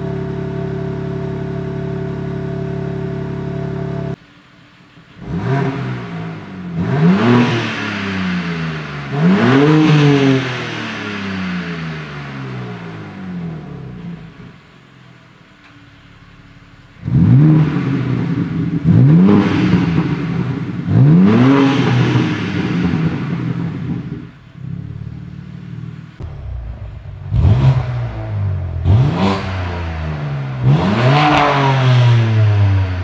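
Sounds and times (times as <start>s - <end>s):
car engine idling: 0.0s - 7.2s, 8.4s - 21.0s, 22.6s - 33.0s
engine throttle blips: 0.0s - 33.0s.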